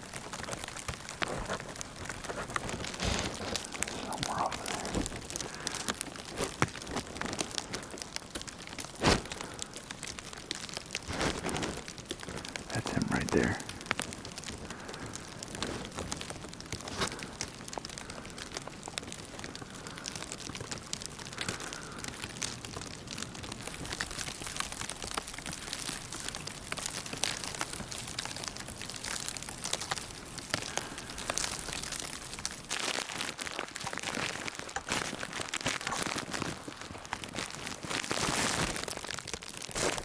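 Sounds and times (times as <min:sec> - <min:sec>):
snow ticking against clothing: 0:00.0 - 0:40.0.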